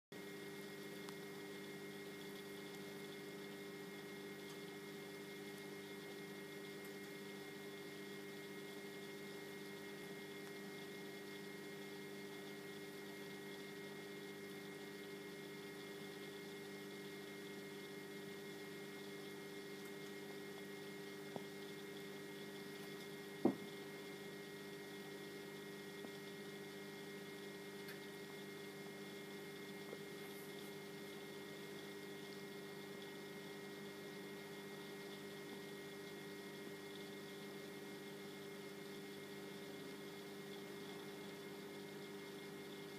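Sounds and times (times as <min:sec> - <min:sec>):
aquarium equipment humming: 0:00.1 - 0:42.9.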